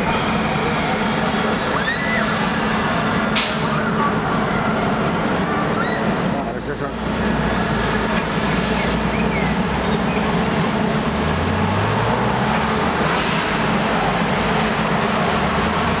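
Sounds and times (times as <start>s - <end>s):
city traffic noise: 0.0s - 16.0s
vehicle engine hum: 0.0s - 16.0s.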